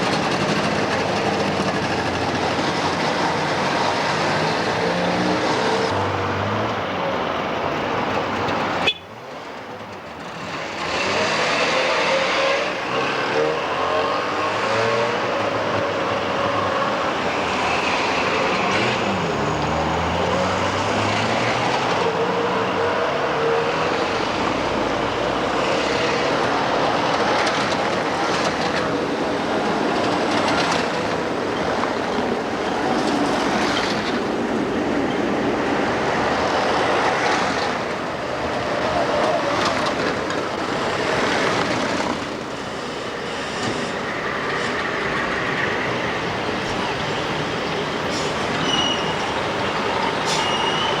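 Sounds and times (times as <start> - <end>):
cars passing on street: 0.0 - 51.0.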